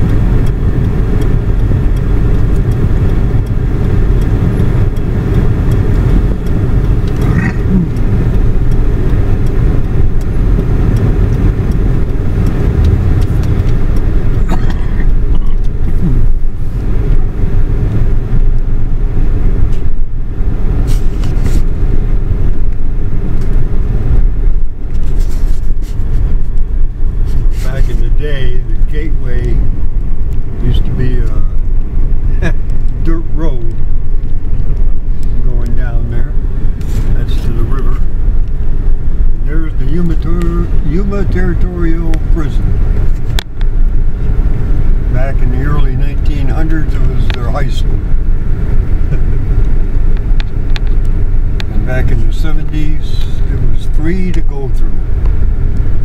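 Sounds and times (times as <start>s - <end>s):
taxi driving rumble: 0.0s - 56.0s.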